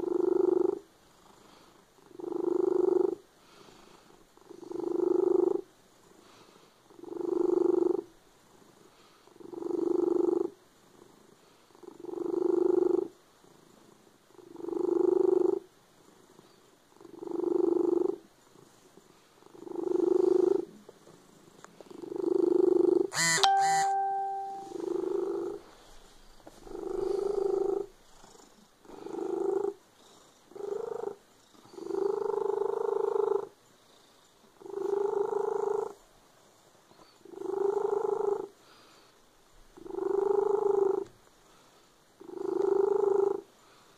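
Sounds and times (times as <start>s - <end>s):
cat purring loudly: 0.0s - 23.1s, 24.4s - 25.9s, 26.5s - 39.0s, 39.7s - 41.1s, 42.2s - 43.8s.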